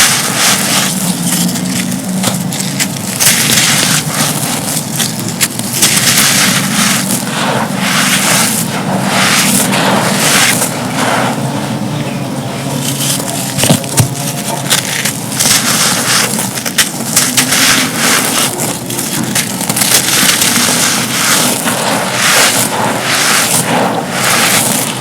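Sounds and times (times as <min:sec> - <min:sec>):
moulded cups crumbling and crunching: 0:00.0 - 0:25.0.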